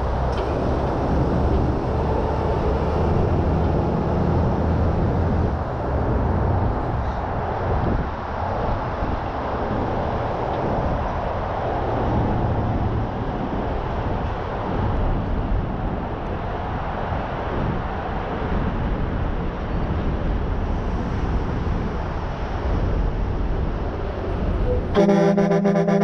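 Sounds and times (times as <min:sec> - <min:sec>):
heavy truck rumbling: 0:00.0 - 0:15.7, 0:20.0 - 0:26.0.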